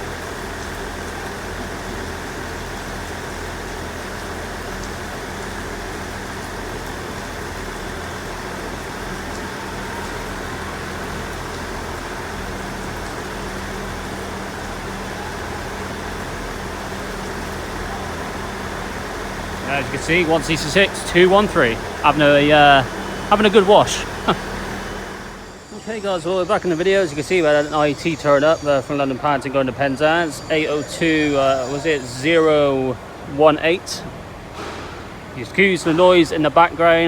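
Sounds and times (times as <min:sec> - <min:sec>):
diesel train engine hum: 0:00.0 - 0:37.0
heavy rain hissing: 0:00.0 - 0:37.0.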